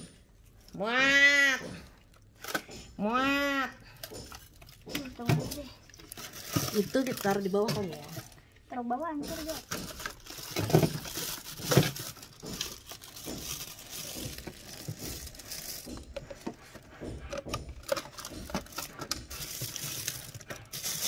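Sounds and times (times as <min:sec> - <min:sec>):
plastic bags rustling: 0:03.9 - 0:21.0
plastic containers knocking: 0:03.9 - 0:21.0.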